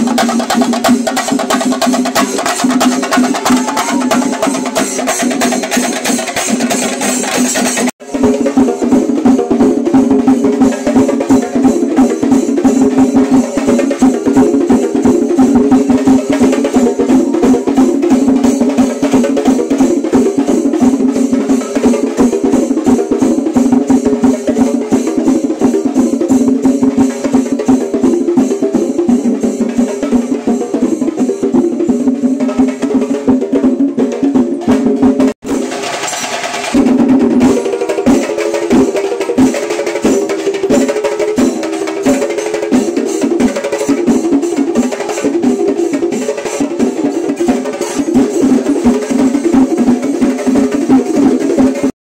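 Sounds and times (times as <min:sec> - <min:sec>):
fast dense drumming: 0:00.0 - 0:51.9.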